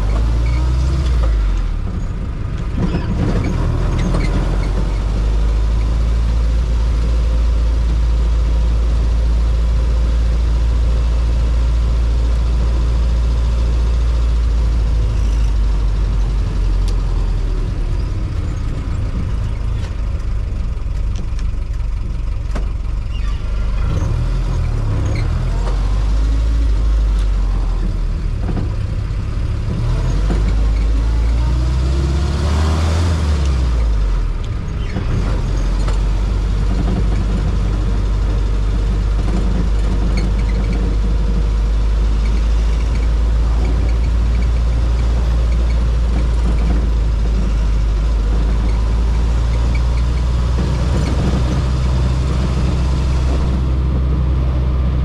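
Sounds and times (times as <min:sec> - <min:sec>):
car engine running: 0:00.0 - 0:55.0
road and wind noise: 0:00.0 - 0:55.0.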